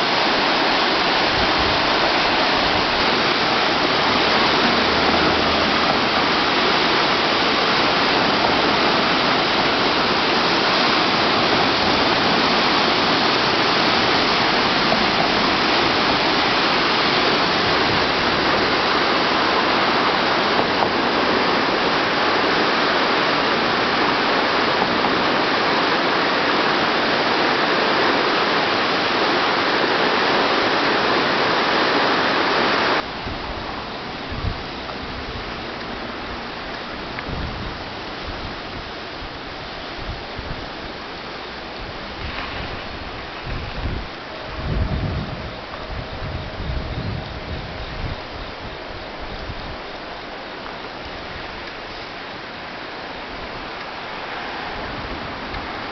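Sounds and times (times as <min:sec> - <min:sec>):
flooded river rushing: 0:00.0 - 0:55.9.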